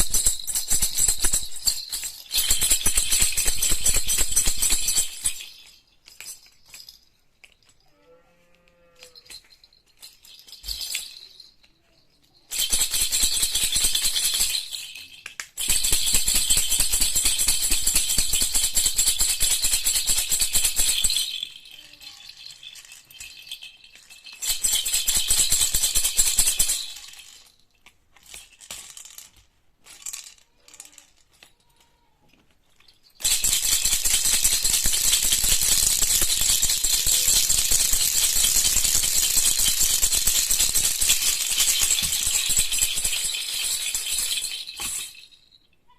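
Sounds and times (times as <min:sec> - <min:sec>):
baby rattle shaking: 0:00.0 - 0:07.9, 0:09.0 - 0:45.9.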